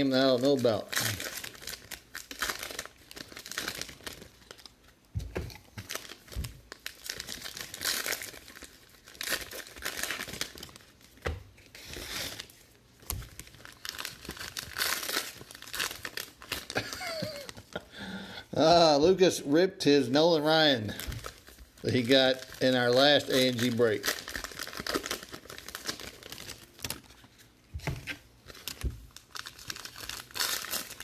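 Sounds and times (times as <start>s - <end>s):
plastic packaging tearing and crinkling: 0.0s - 17.8s, 20.4s - 31.0s.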